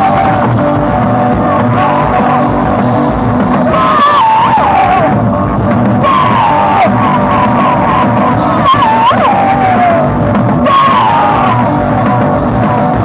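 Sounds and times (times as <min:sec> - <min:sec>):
drums: 0:00.0 - 0:13.0
electric guitar: 0:00.0 - 0:13.0.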